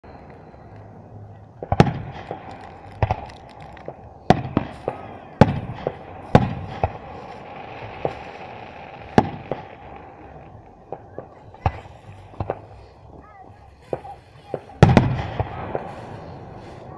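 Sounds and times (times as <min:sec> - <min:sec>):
fireworks bangs: 0:01.2 - 0:16.9.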